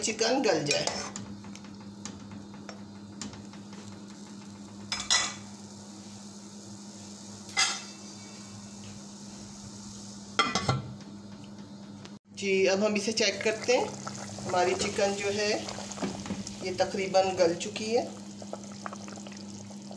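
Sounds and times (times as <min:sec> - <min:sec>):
pot simmering: 0:00.0 - 0:11.9, 0:12.5 - 0:19.9
steady low hum: 0:00.0 - 0:19.9.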